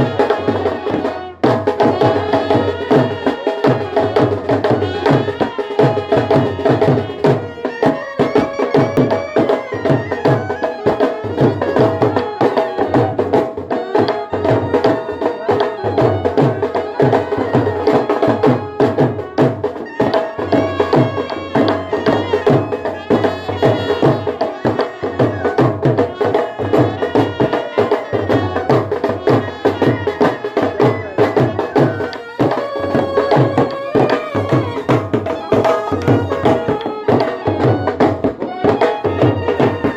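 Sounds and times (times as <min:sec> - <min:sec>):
brass horns playing melody: 0:00.0 - 0:12.9, 0:16.7 - 0:38.0
steady drumbeat: 0:00.0 - 0:39.9.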